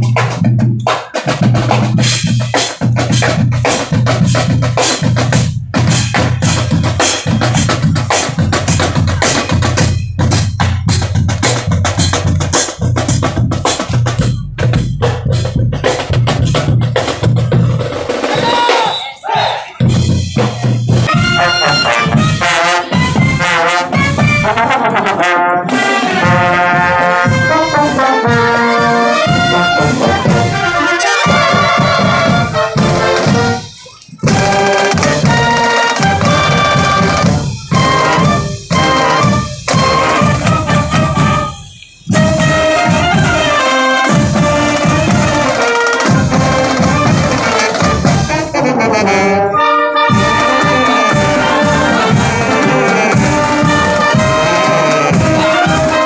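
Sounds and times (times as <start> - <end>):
brass band playing: 0.0 - 56.0
marching drums: 0.0 - 56.0.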